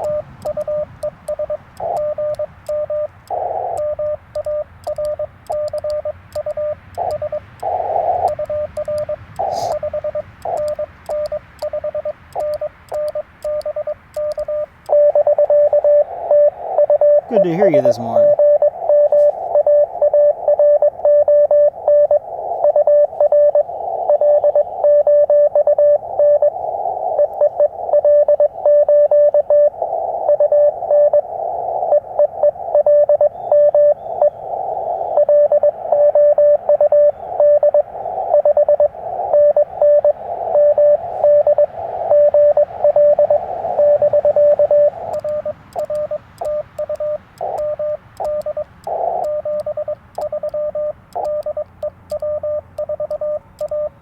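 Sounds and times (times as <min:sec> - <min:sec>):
radio receiver hiss: 0:00.0 - 0:20.6, 0:21.6 - 0:24.9, 0:26.0 - 0:28.6, 0:29.7 - 0:54.0
morse code tone: 0:00.0 - 0:54.0.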